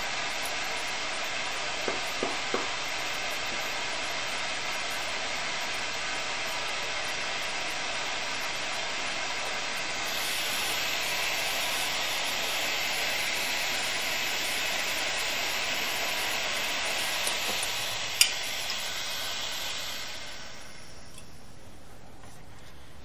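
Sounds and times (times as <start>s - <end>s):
gas torches hissing: 0.0s - 23.0s.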